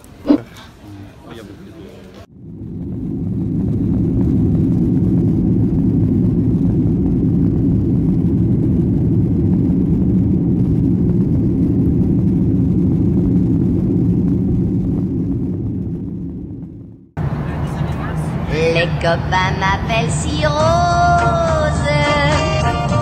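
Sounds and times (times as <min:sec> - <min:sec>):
jet engines rumbling in cabin: 0:01.6 - 0:23.0.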